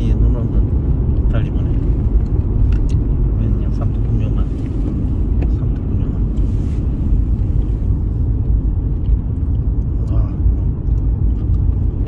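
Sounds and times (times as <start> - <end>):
tyres and engine rumbling: 0.0 - 12.0.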